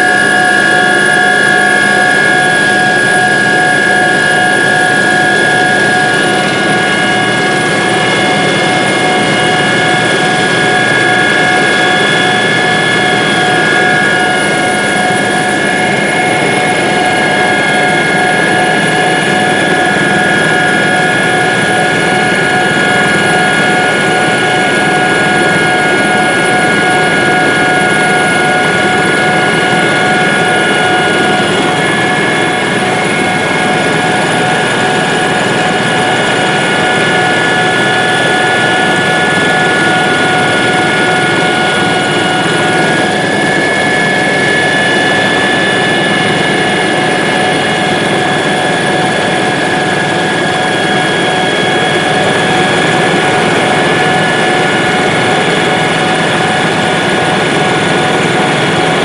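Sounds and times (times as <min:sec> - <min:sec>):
helicopter engine and rotors: 0:00.0 - 0:59.0
high whining tones: 0:00.0 - 0:59.0.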